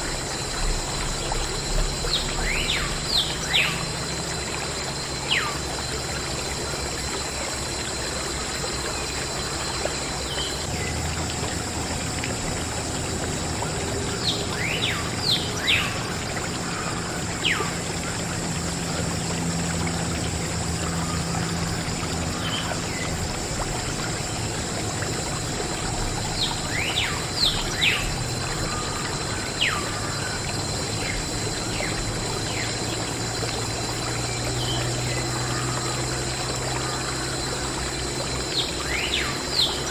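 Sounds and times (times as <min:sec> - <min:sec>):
water pouring: 0:00.0 - 0:39.9.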